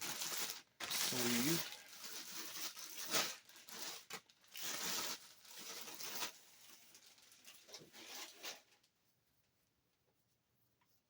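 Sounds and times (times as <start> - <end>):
plastic sleeve rustling: 0.0 - 9.0.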